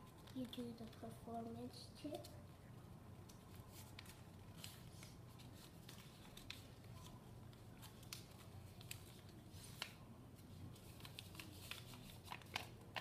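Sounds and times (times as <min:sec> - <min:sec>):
paper rustling and crackling: 0:00.0 - 0:01.3, 0:03.2 - 0:13.0.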